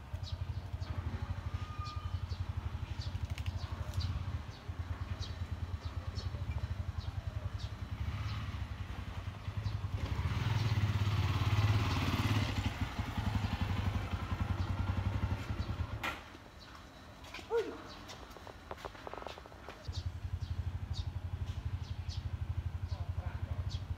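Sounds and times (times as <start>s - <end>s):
engine running with low pulsing: 0.0s - 23.9s.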